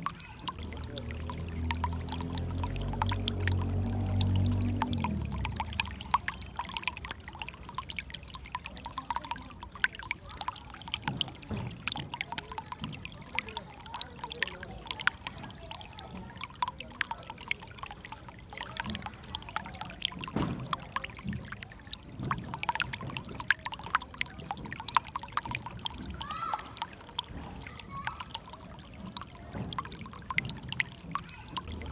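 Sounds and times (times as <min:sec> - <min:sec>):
water gurgling: 0:00.0 - 0:31.9
water running over stones: 0:00.0 - 0:31.9.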